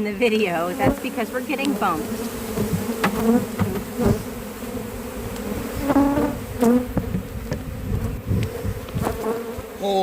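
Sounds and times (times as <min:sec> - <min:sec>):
bees buzzing: 0:00.0 - 0:10.0
bees thumping into camera: 0:00.3 - 0:09.8
bees whizzing past: 0:00.7 - 0:09.8.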